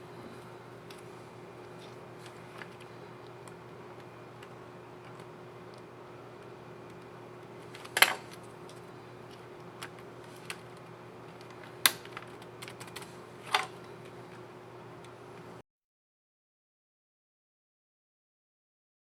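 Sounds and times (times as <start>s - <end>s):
faint hum: 0.0s - 15.6s.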